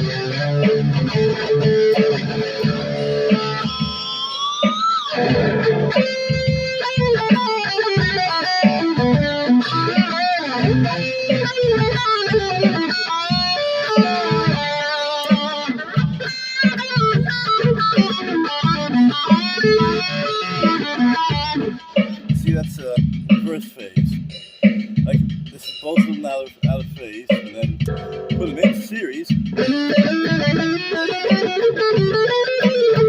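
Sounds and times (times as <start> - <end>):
electric guitar playing: 0.0 - 22.6, 26.6 - 33.0.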